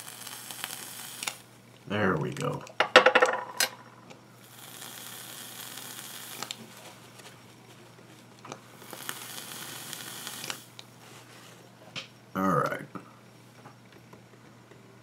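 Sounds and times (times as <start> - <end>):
atomizer coils sizzling: 0.0 - 15.0.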